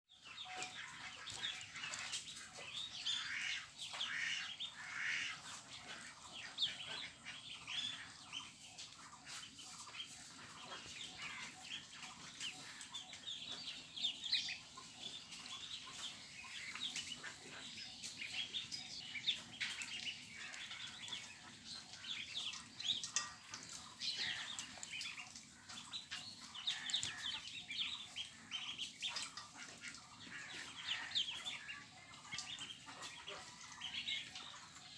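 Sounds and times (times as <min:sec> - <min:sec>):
flock of poultry calling: 0:00.1 - 0:34.9.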